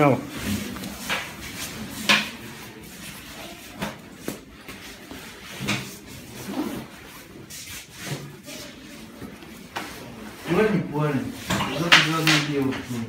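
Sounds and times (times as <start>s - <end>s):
clothes rustling: 0.2s - 13.0s.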